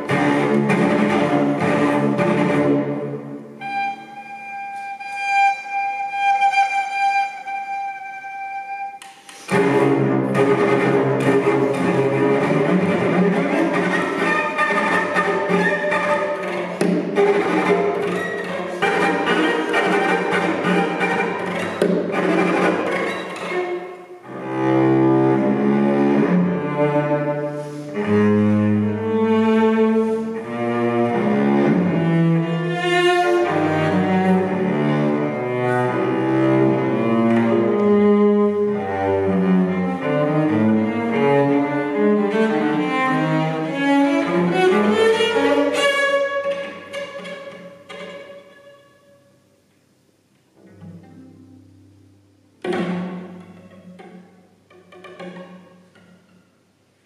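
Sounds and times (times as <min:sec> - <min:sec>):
bowed cello notes: 0:00.0 - 0:57.0.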